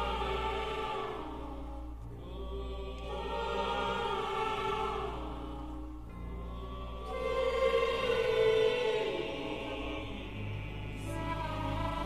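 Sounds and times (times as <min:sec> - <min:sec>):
choir holding sustained chords: 0:00.0 - 0:12.0
low steady drone: 0:00.0 - 0:12.0.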